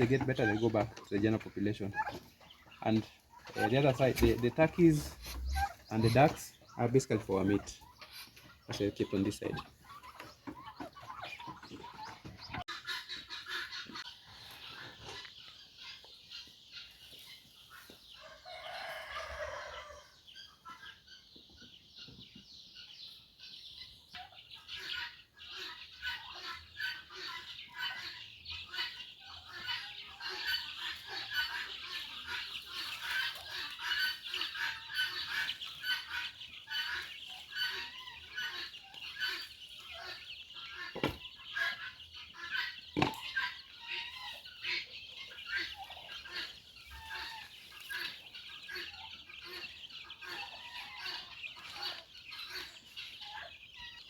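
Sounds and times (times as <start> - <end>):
drawn-out chicken call: 0.0 - 22.0, 22.6 - 54.0
chickens clucking and chirping: 0.0 - 54.0.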